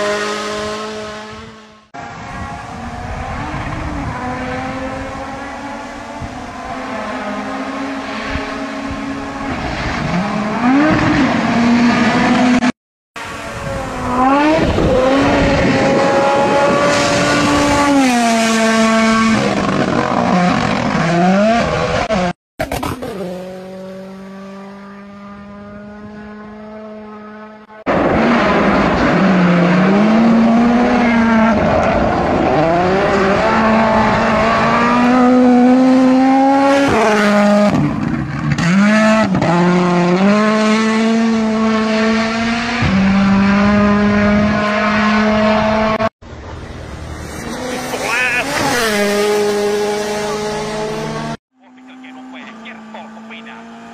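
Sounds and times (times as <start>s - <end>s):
rally car engines at full throttle: 0.0s - 53.9s.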